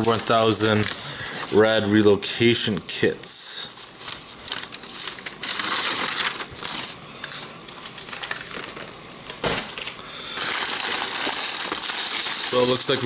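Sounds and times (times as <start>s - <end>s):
plastic packaging crinkling: 0.0s - 1.8s, 3.7s - 13.0s.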